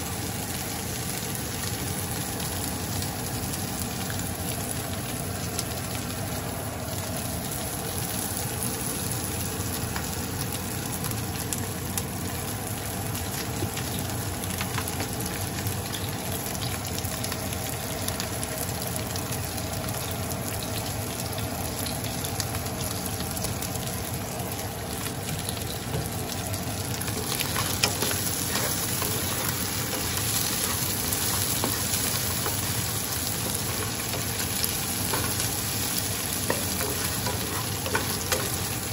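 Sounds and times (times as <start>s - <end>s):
fish and onion sizzling in oil: 0.0s - 38.9s.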